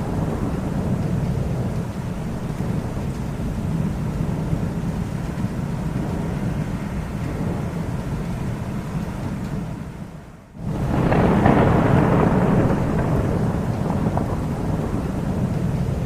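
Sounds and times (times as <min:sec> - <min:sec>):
rolling thunder rumbling: 0:00.0 - 0:16.0.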